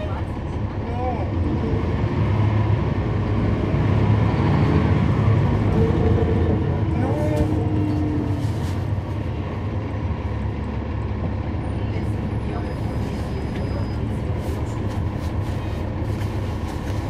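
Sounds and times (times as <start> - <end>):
bus diesel engine droning: 0.0 - 17.0
road noise: 0.0 - 17.0.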